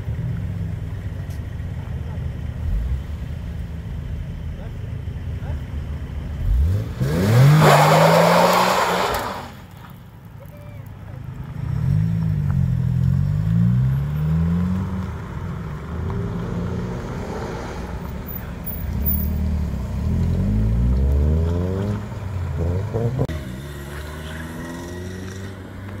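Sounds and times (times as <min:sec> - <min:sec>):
car engines accelerating hard: 0:00.0 - 0:09.9, 0:11.2 - 0:26.0.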